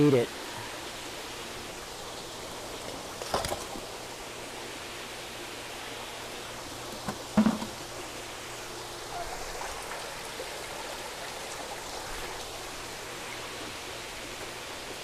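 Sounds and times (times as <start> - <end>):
water running through tank system: 0.0 - 15.0.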